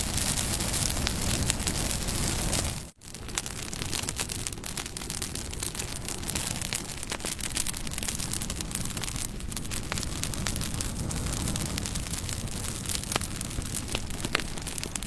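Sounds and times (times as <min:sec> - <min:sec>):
hiss of flame: 0:00.0 - 0:15.0
wood crackling and popping: 0:00.0 - 0:15.0.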